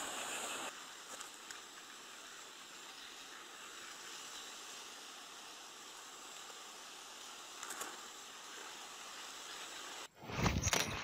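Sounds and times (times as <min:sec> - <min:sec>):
outdoor background hiss: 0:00.0 - 0:10.3.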